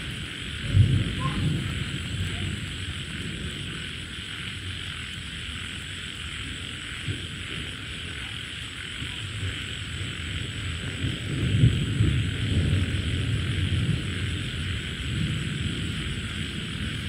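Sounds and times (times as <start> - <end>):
steady high hiss: 0.0 - 17.0
wind buffeting microphone: 0.0 - 17.0.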